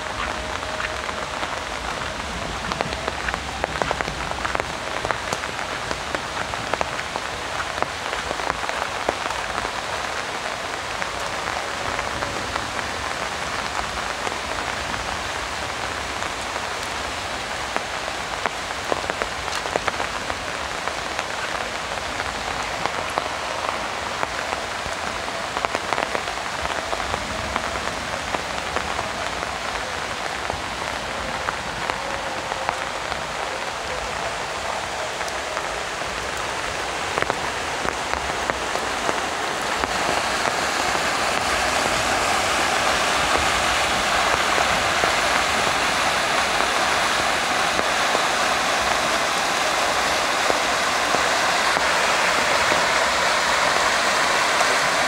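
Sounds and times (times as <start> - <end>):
heavy rain on an umbrella: 0.0 - 55.0.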